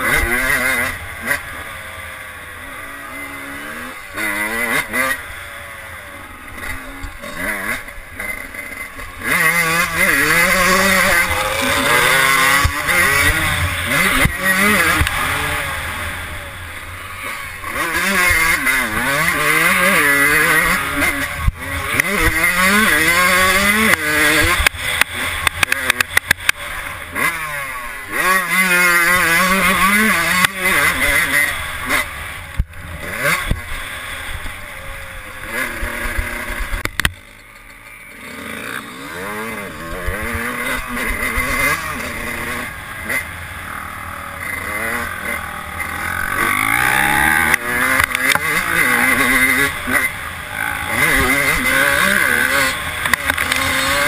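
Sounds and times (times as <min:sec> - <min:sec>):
engine crackles: 0:00.0 - 0:54.0
two-stroke motorcycle engine revving: 0:00.0 - 0:54.0.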